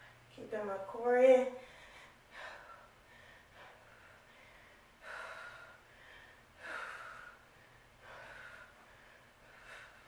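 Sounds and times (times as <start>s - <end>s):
woman breathing hard: 1.6s - 10.0s.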